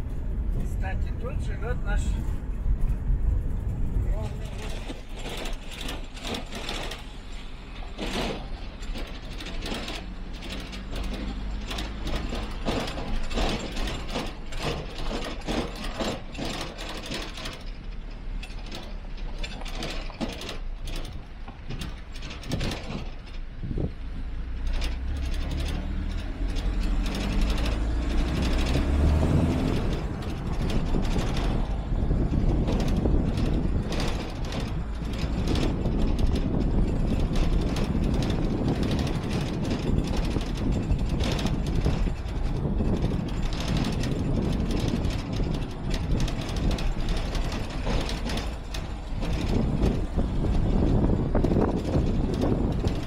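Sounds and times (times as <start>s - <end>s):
car engine rumble: 0.0s - 53.0s
car cabin rattling and clicks: 2.8s - 24.0s, 24.6s - 53.0s.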